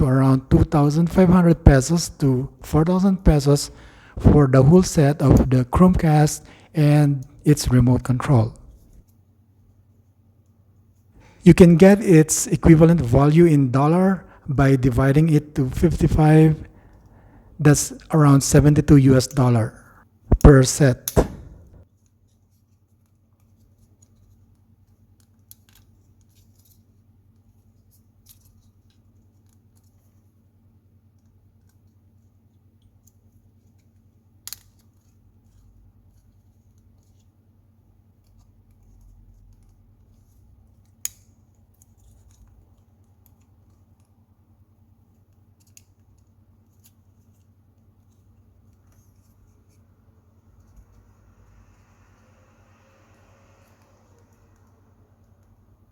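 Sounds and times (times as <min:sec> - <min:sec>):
faint low hum: 0:00.0 - 0:55.9.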